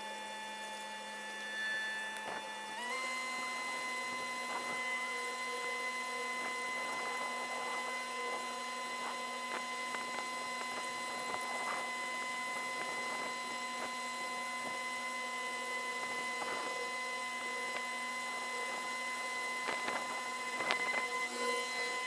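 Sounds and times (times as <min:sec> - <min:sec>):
high-pitched machine buzz: 0:00.0 - 0:22.0.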